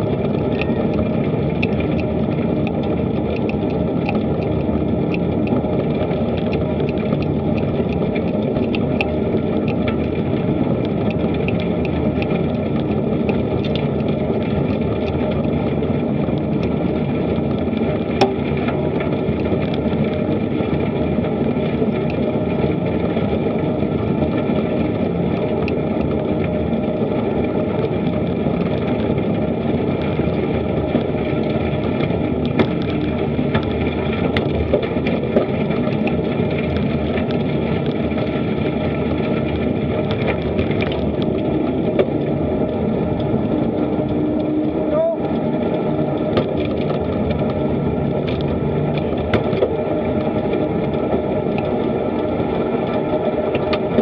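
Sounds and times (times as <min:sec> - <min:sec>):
bicycle tyres on pavement: 0:00.0 - 0:54.0
small clicks and rattles: 0:00.0 - 0:54.0
wind on microphone: 0:00.0 - 0:54.0.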